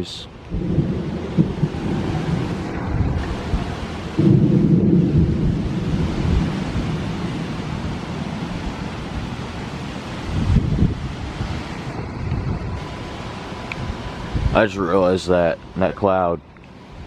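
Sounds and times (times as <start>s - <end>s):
thunder rumbling: 0.0s - 14.6s
rain: 0.0s - 17.0s
wind: 0.0s - 17.0s.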